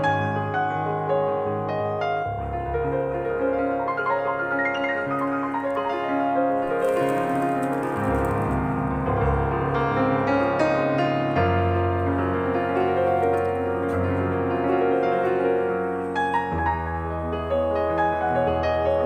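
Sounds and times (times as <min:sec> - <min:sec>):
piano music with bass: 0:00.0 - 0:19.0.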